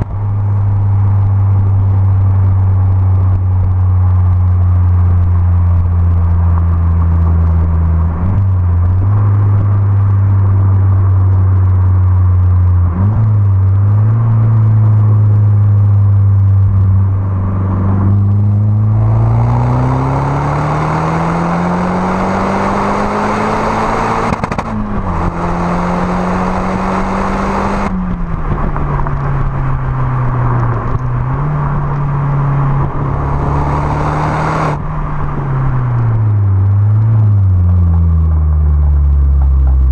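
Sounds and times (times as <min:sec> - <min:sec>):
car exhaust droning and accelerating: 0:00.0 - 0:39.9.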